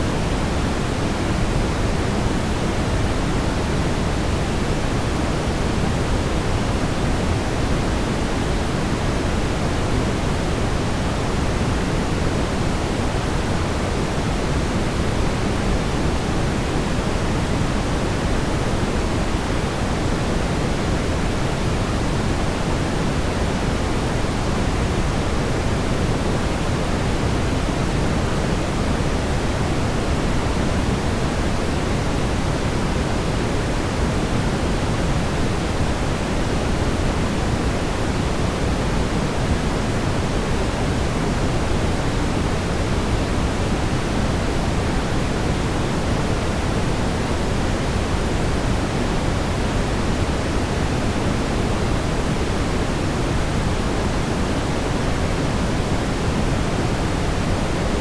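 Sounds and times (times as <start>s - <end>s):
brown noise rumbling hiss: 0.0s - 58.0s.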